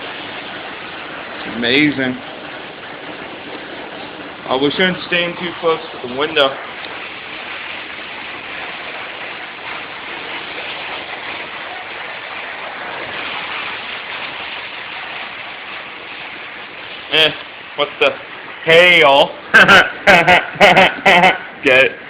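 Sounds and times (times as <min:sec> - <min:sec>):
hail falling: 0:00.0 - 0:21.9.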